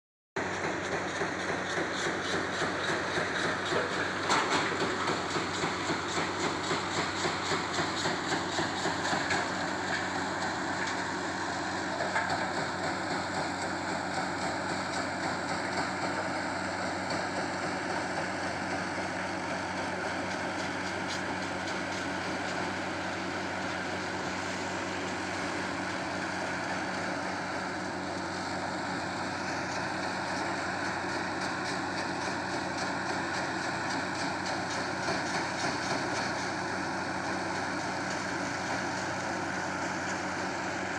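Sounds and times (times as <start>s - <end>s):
heavy machinery running: 0.4s - 40.9s.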